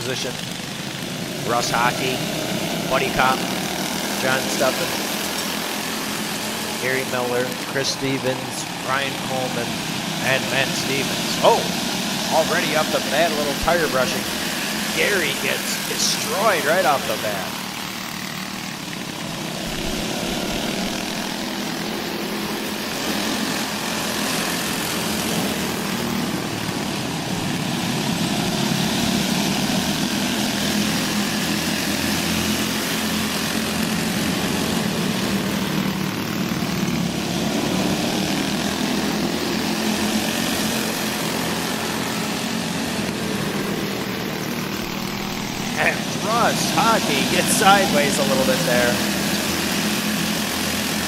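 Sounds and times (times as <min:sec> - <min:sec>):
go-kart engines racing: 0:00.0 - 0:51.0.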